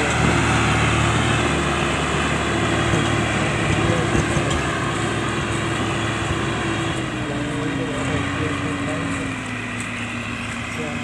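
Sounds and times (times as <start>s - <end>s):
diesel tractors running under load: 0.0s - 11.0s.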